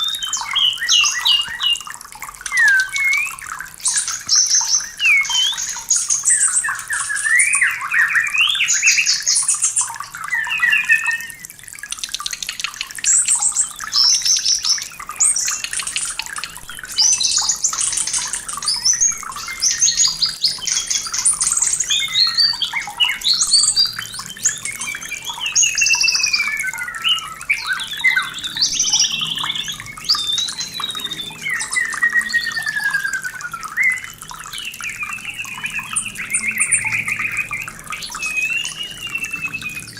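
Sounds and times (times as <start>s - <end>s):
songbird whistling and trilling: 0.0s - 11.6s, 12.4s - 39.9s.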